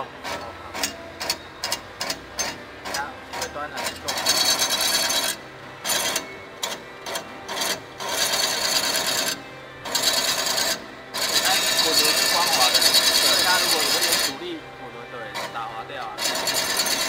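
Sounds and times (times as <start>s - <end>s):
metal rod scraping through rollers: 0.0s - 17.0s.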